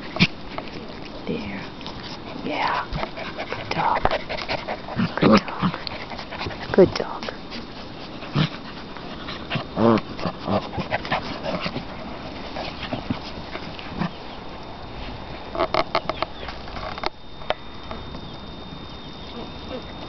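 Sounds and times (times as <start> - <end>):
puppies scuffling: 0.0 - 17.1.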